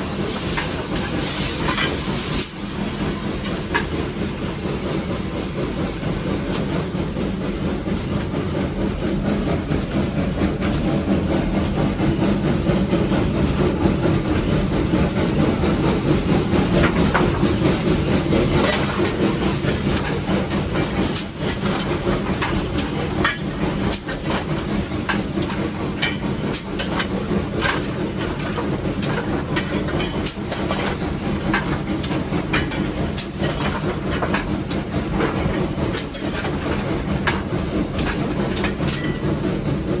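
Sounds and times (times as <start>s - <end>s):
steam engine rumble and hiss: 0.0s - 40.0s.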